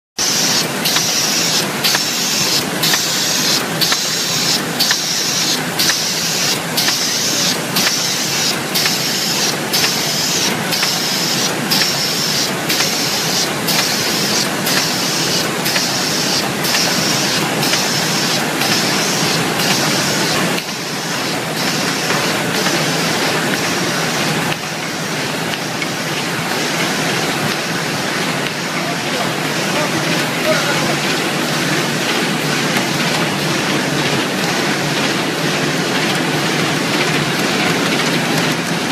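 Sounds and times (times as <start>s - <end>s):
machine clattering: 0.2s - 38.9s.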